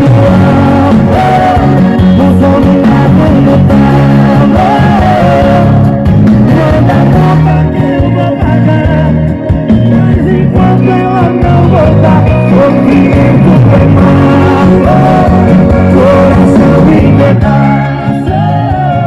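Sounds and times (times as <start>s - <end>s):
music over loudspeaker: 0.0s - 19.0s.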